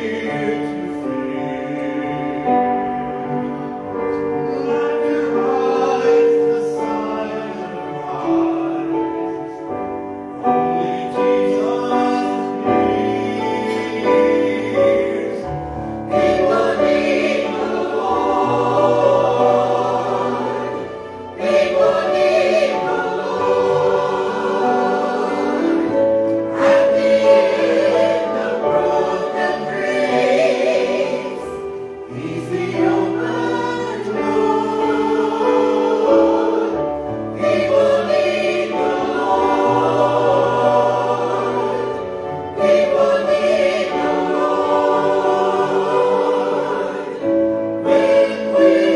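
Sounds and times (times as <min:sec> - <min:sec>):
congregation singing a hymn: 0:00.0 - 0:48.9
keyboard accompaniment: 0:00.0 - 0:48.9.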